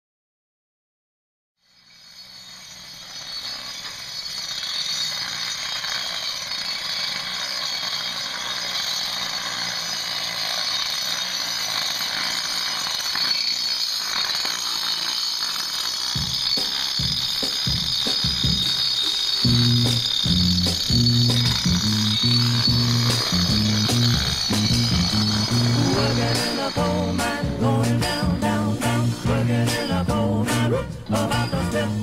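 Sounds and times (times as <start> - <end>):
angle grinder grinding concrete: 1.8 - 32.0.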